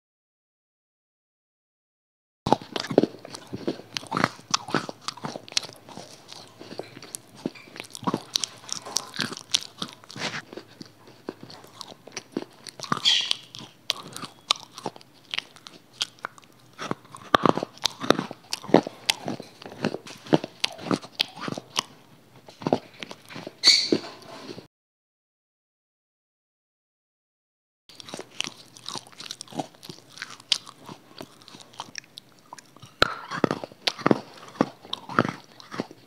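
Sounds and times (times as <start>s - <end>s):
crunching and chewing crisp food: 2.5s - 24.7s, 27.9s - 36.0s.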